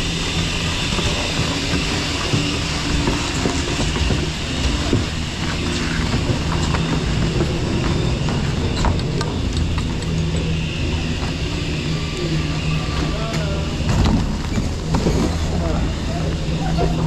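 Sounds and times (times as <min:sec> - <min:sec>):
chairlift machinery humming: 0:00.0 - 0:17.0.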